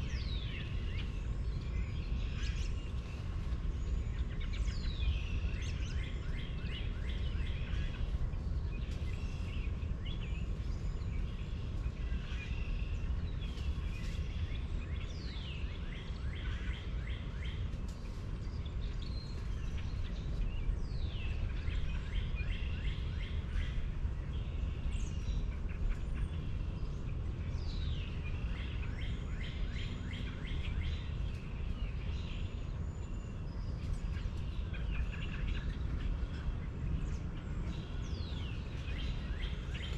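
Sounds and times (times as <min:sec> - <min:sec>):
birds calling and chattering: 0:00.0 - 0:39.9
faint steady hum: 0:00.0 - 0:39.9.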